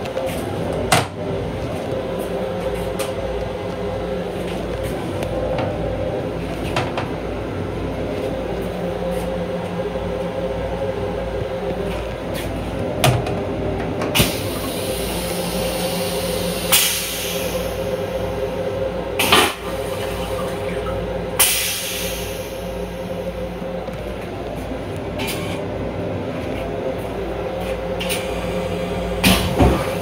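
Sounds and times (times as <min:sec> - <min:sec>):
electric train rumbling: 0:00.0 - 0:30.0.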